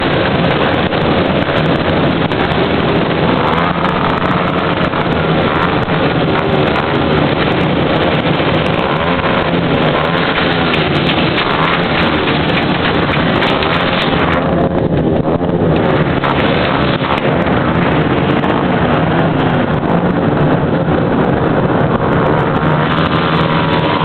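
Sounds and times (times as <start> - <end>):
motorcycle engines passing: 0.0 - 24.0.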